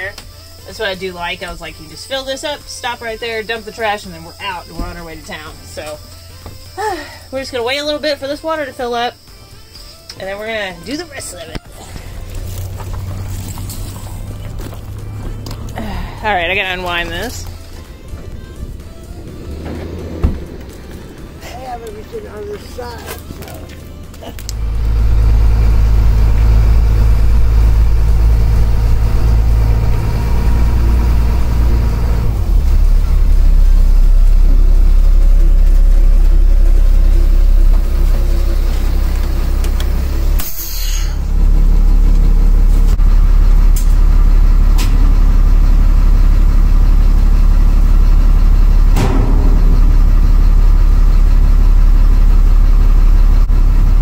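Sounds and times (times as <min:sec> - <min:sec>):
bus engine humming at low revs: 0:00.0 - 0:54.0.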